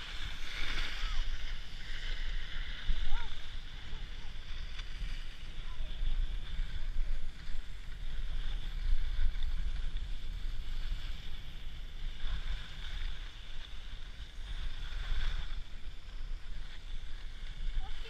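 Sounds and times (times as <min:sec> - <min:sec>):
skis sliding on packed snow: 0:00.0 - 0:18.0
wind rumbling on microphone: 0:00.0 - 0:18.0.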